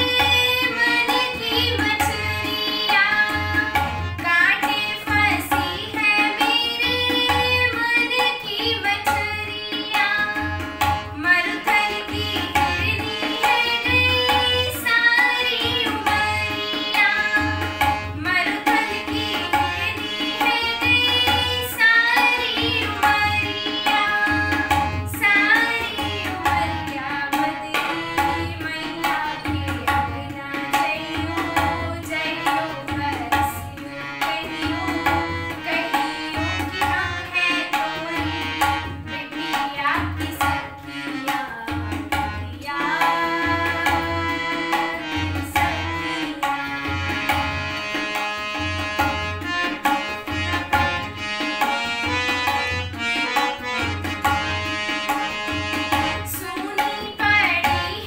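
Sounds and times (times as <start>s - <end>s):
girl singing folk song: 0.0s - 47.3s, 56.3s - 58.0s
harmonium: 0.0s - 58.0s.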